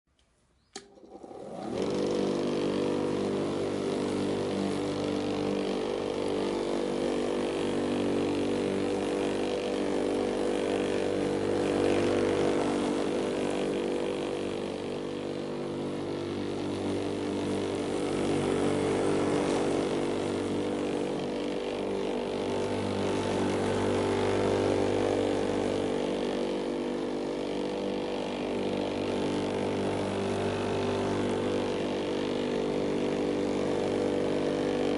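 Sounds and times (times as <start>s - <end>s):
lawn mower engine: 0.7s - 34.9s.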